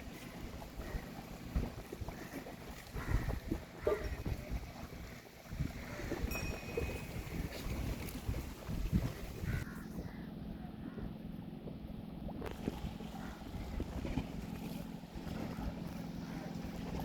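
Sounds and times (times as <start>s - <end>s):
boat motor humming: 0.0s - 17.0s
wind rumbling on microphone: 0.0s - 17.0s.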